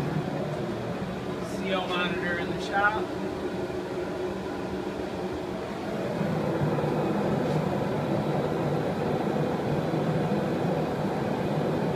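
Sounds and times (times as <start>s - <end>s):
gas forge burners rushing: 0.0s - 11.9s.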